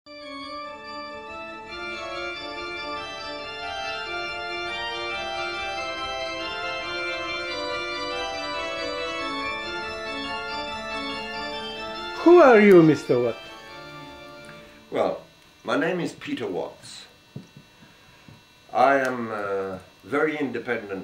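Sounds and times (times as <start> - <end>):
organ music: 0.1 - 17.3.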